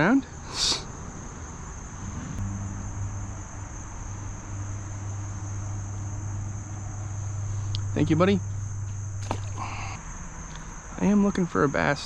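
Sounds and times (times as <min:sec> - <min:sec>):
insects buzzing: 0:00.0 - 0:12.0
low steady hum: 0:02.0 - 0:12.0.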